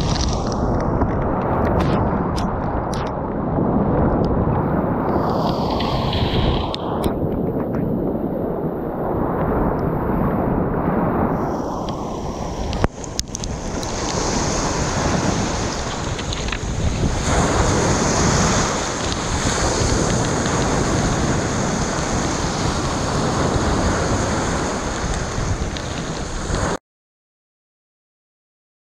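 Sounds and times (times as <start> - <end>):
surf breaking and foaming: 0.0 - 26.8
wind buffeting microphone: 0.0 - 26.8.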